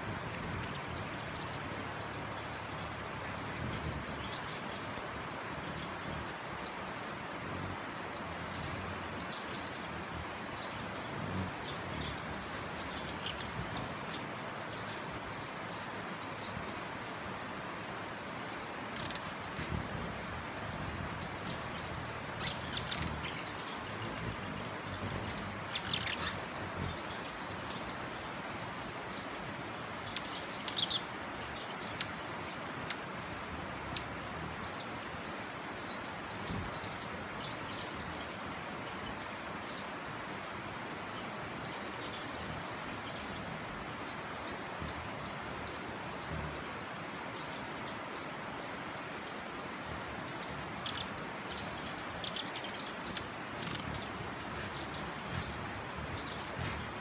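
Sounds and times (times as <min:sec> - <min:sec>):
birds chirping: 0:00.0 - 0:57.0
steady background hiss: 0:00.0 - 0:57.0.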